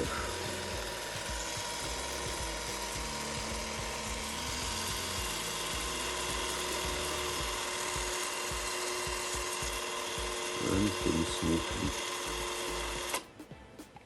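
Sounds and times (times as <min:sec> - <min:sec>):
film camera motor whirring: 0:00.0 - 0:13.2.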